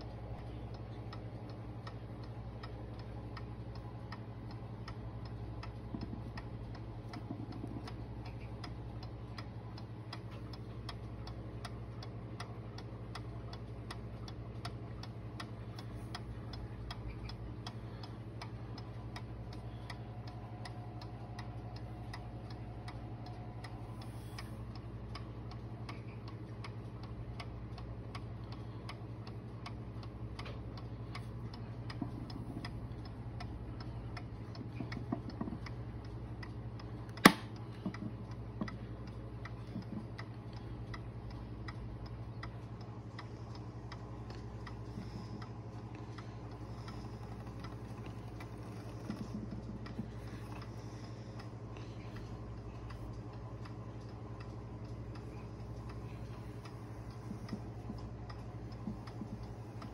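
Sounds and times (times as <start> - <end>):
clock ticking: 0.0 - 59.9
low steady hum: 0.0 - 59.9.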